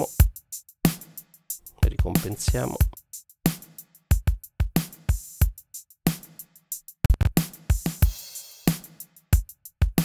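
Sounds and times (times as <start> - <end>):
compressed drum kit groove: 0.0 - 10.0.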